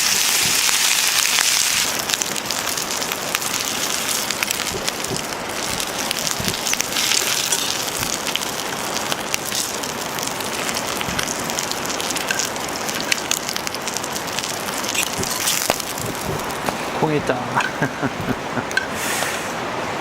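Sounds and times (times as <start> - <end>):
food sizzling in a pan: 0.0 - 16.8
wood fire pops and crackles: 0.0 - 18.9.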